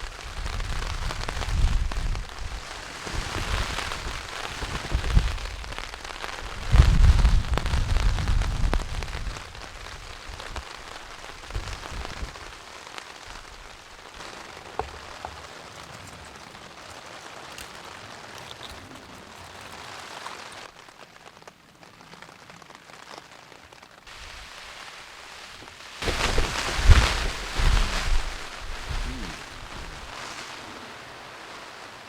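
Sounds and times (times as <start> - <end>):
raindrops ticking: 0.0 - 30.6
steady rain falling: 0.0 - 32.0.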